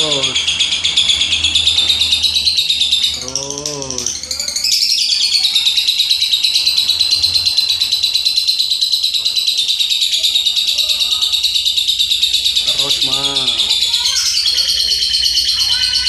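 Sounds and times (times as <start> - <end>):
lovebird chattering trill: 0.0 - 16.0.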